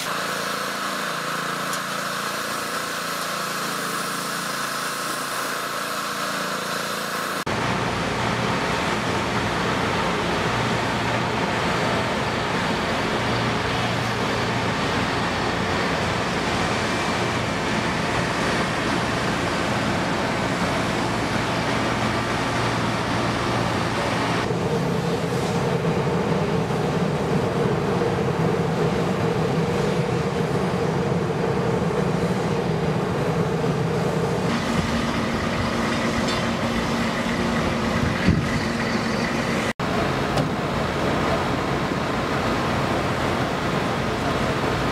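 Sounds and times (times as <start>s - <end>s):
engines and machinery droning: 0.0s - 44.9s.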